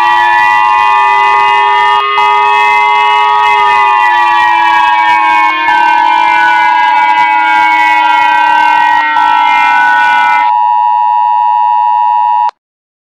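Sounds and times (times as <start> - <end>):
steady buzzing tone: 0.0 - 10.8
emergency alert alarm tones: 0.0 - 12.5.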